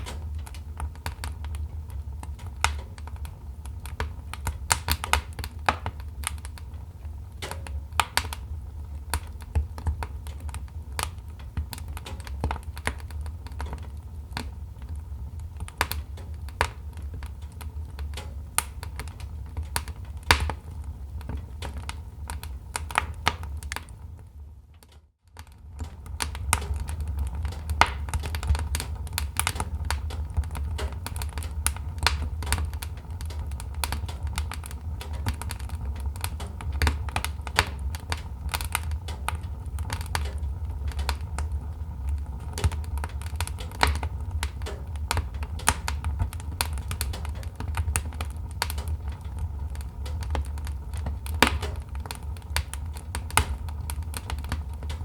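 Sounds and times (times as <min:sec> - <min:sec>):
fire rumbling: 0:00.0 - 0:55.0
wood fire crackling: 0:00.0 - 0:55.0.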